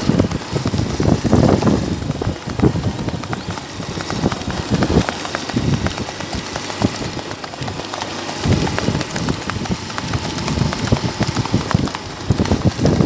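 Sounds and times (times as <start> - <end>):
horse hoofbeats on dirt: 0.0 - 13.0
steady low rumble: 0.0 - 13.0.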